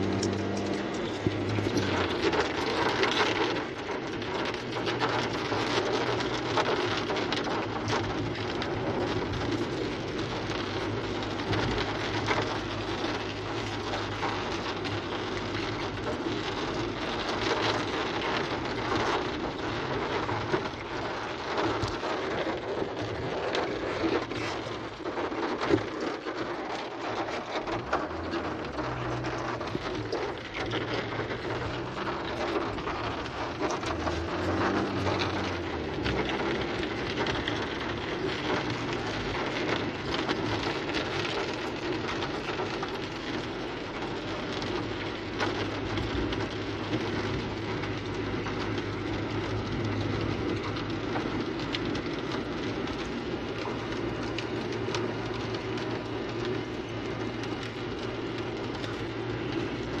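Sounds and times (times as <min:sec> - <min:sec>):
car driving on wet road: 0:00.0 - 1:00.0
rain pattering on car roof: 0:00.0 - 1:00.0.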